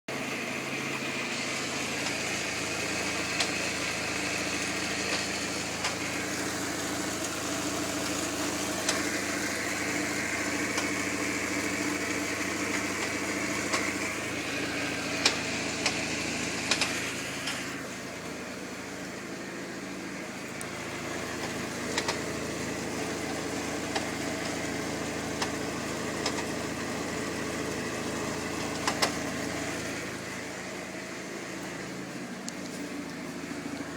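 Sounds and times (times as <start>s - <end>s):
engine knocking: 0.1s - 32.2s
car engine idling: 0.1s - 33.9s.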